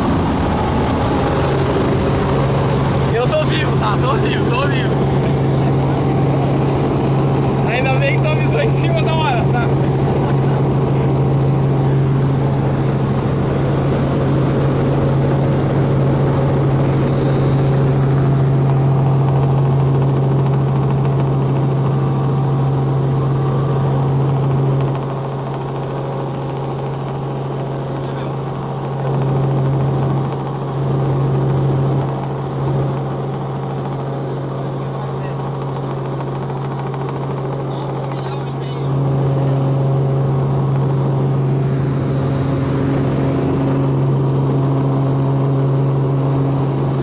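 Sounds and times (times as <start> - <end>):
helicopter rotor and engine drone: 0.0 - 47.0.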